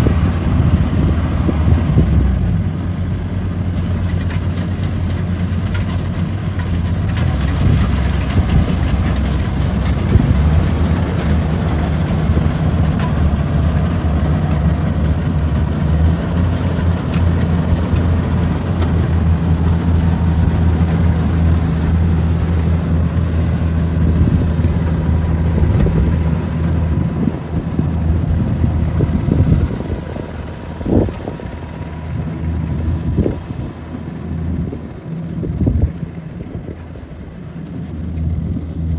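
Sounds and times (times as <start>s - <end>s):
wind buffeting microphone: 0.0s - 3.8s, 7.3s - 37.6s
combine harvester engine droning: 0.0s - 38.9s.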